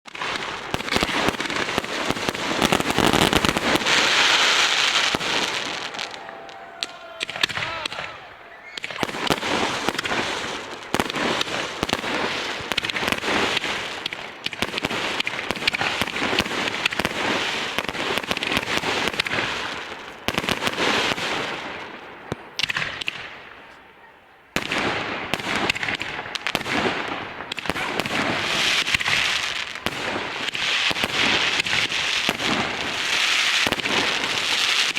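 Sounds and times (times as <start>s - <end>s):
fireworks crackling and banging: 0.1s - 34.9s.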